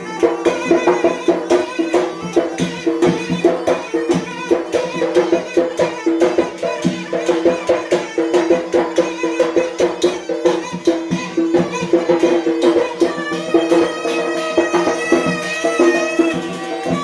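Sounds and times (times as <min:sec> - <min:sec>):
hand drums beat: 0:00.0 - 0:17.0
reed pipe melody: 0:00.0 - 0:17.0.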